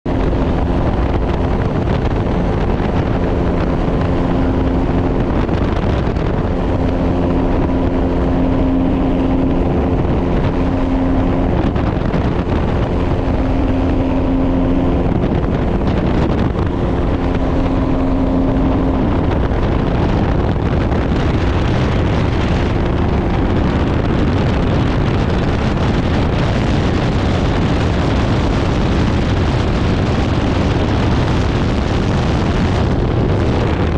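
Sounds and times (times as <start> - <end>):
aircraft engine droning: 0.0 - 33.9
wind noise on microphone: 0.0 - 33.9.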